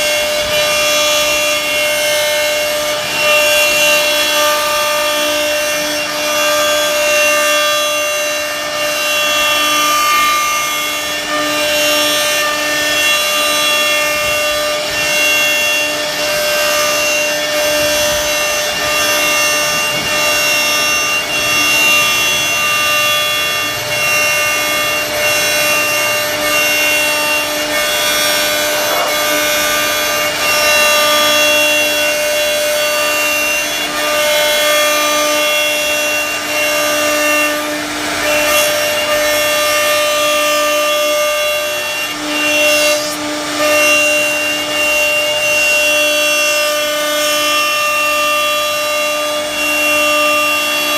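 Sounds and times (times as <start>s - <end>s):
wood router cutting: 0.0s - 50.9s.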